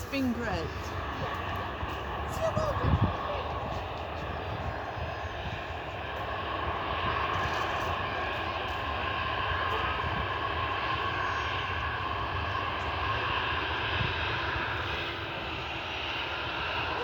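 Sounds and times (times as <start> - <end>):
faint engine whine: 0.0 - 17.0
jet engines rushing: 0.0 - 17.0.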